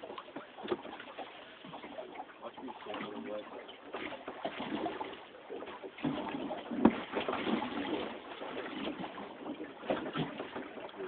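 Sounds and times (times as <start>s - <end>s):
water sloshing against boat hull: 0.0s - 11.0s.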